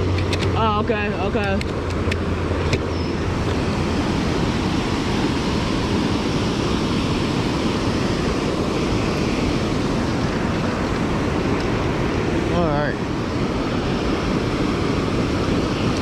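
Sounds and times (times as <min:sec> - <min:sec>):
river water rushing over dam: 0:02.0 - 0:16.0.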